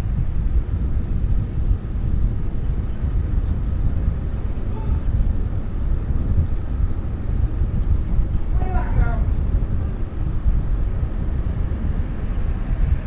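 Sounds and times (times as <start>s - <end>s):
wind buffeting camera: 0.0s - 13.0s.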